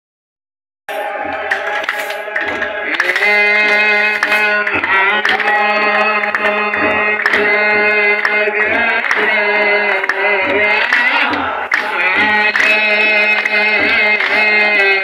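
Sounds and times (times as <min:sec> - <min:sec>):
chorus chanting a hymn: 0:00.9 - 0:15.0.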